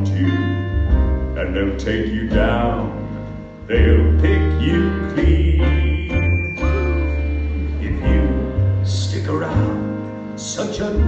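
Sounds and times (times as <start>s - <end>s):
deep held bass notes: 0.0s - 11.0s
guitar: 0.0s - 11.0s
pit band playing: 0.0s - 11.0s.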